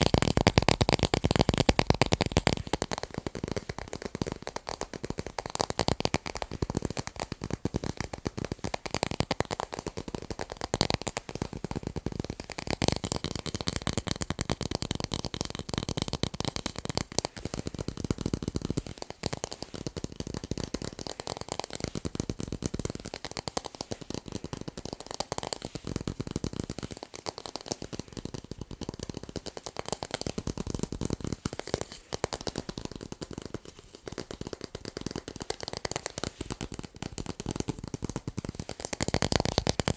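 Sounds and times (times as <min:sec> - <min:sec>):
fast tapping on tape: 0:00.0 - 0:39.9.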